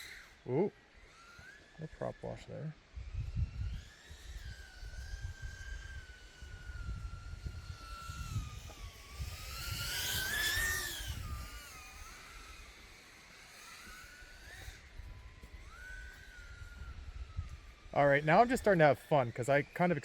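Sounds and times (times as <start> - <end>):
quadcopter motors buzzing: 0.0 - 20.0.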